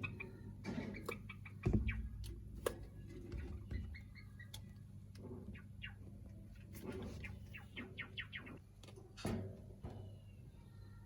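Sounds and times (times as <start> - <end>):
sparrows chirping: 0.0 - 9.2.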